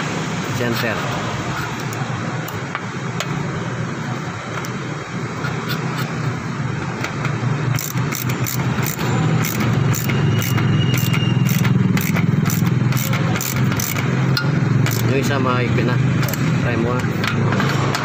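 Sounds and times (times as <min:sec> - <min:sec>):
low mechanical hum: 0:01.0 - 0:18.0
ratchet wrench clicking: 0:01.6 - 0:03.4, 0:04.5 - 0:15.4, 0:16.1 - 0:18.0.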